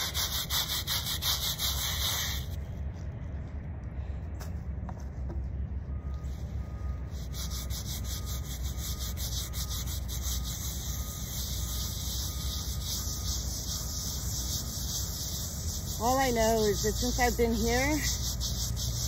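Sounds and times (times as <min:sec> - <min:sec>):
brush scrubbing stone: 0:00.0 - 0:02.6, 0:06.2 - 0:19.0.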